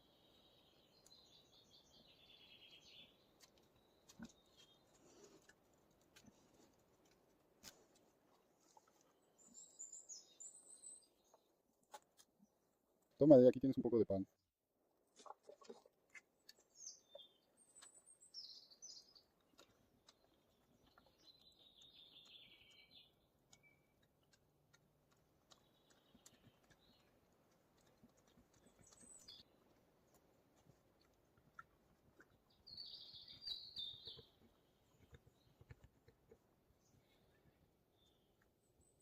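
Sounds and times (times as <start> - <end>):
songbird chirps: 0.0 - 39.0.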